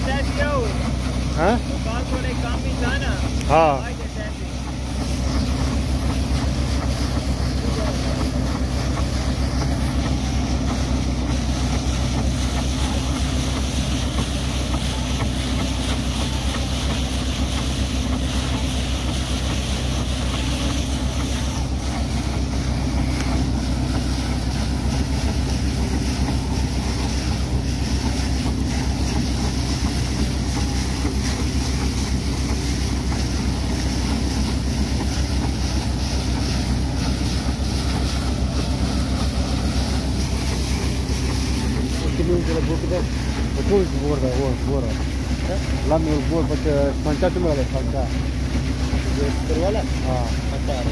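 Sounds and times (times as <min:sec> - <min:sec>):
drilling rig engine droning: 0:00.0 - 0:50.9
water gushing and spraying: 0:00.0 - 0:50.9.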